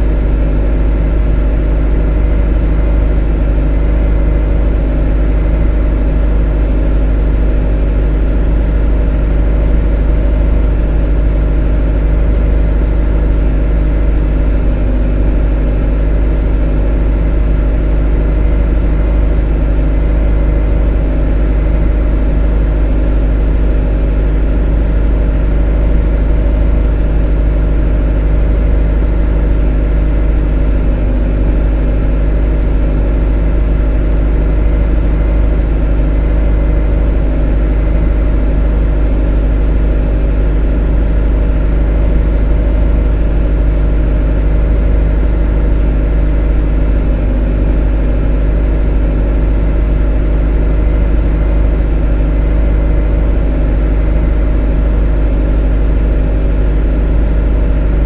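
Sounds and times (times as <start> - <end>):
motor humming steadily: 0.0 - 58.0.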